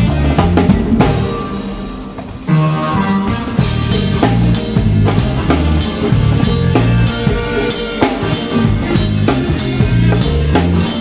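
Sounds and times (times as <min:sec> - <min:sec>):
bass notes: 0:00.0 - 0:01.4, 0:02.8 - 0:11.0
drum kit steady beat: 0:00.0 - 0:11.0
guitar: 0:00.0 - 0:11.0.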